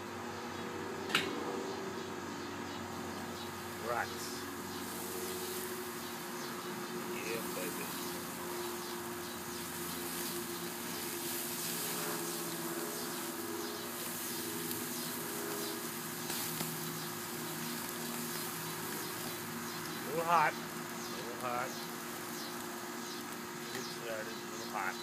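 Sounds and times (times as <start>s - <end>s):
buzzing drone: 0.0s - 25.0s
grill hissing and sizzling: 0.0s - 25.0s.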